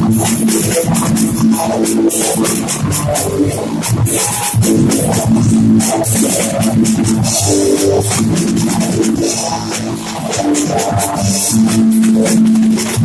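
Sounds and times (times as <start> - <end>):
drum kit with cymbal hits: 0.0 - 13.0
rock music with guitar and bass: 0.0 - 13.0.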